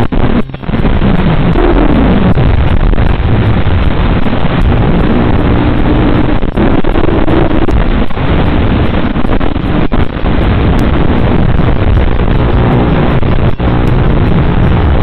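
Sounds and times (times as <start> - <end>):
loud static hiss: 0.0 - 15.0.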